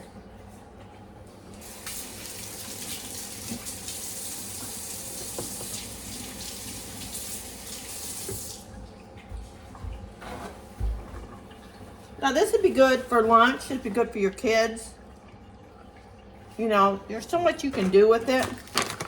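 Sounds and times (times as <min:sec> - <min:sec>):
kitchen tap running into sink: 0:01.3 - 0:19.0.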